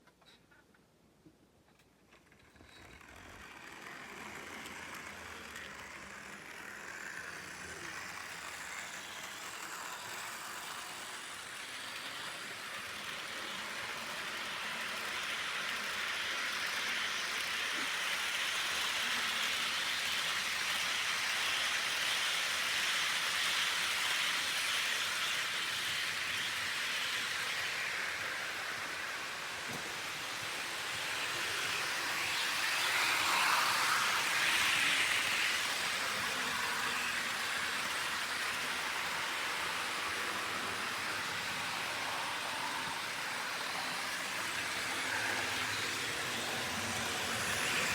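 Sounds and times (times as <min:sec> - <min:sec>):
model train motor: 0:01.7 - 0:47.9
model wagon wheels rolling on rails: 0:02.0 - 0:47.9.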